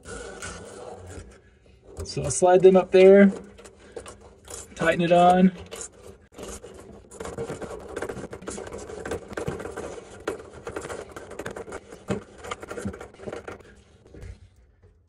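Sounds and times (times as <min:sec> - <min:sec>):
nut scraping against washers: 0:00.0 - 0:13.6.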